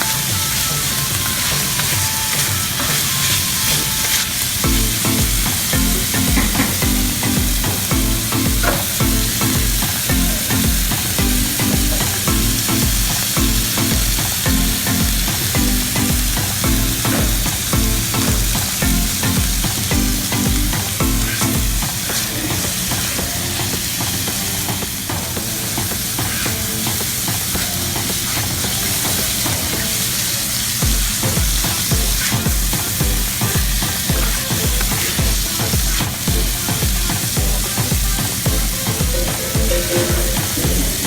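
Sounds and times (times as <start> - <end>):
background music with steady beat: 0.0 - 41.0
chicken sizzling in a pan: 0.0 - 41.0.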